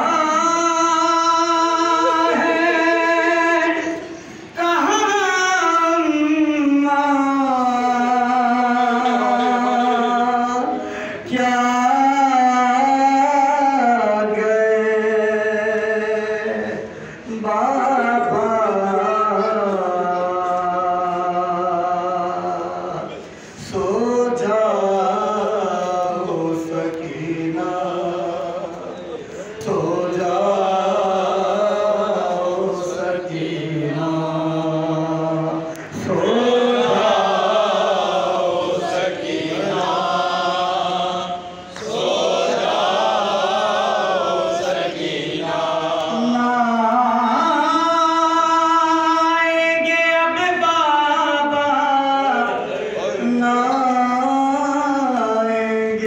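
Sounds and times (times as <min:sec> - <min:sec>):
man singing lament into microphone: 0:00.0 - 0:41.7, 0:43.6 - 0:56.0.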